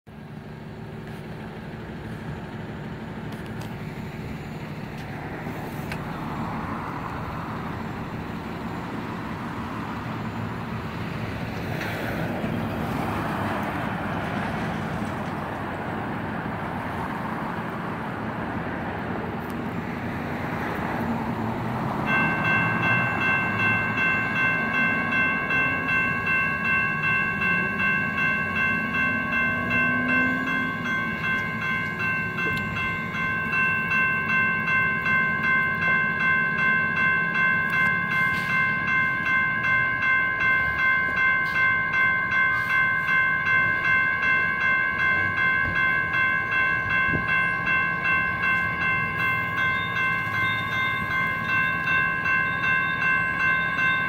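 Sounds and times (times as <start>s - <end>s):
street traffic: 0.0s - 54.0s
crossing bells ringing: 0.1s - 54.0s.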